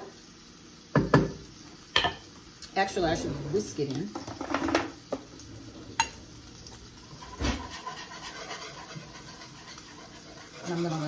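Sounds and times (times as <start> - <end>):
faint sizzle: 0.0 - 11.0.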